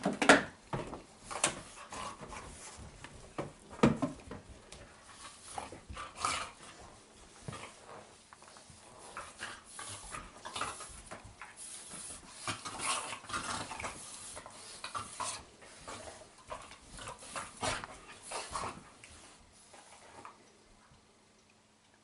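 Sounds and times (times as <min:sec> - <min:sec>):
dogs scuffling: 0:00.0 - 0:20.4.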